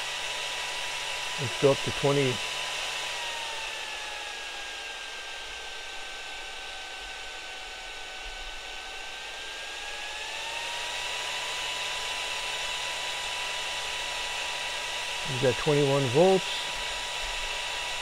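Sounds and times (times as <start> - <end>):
fan rush of air: 0.0 - 6.8, 7.4 - 18.0
fan motor whine: 0.0 - 18.0.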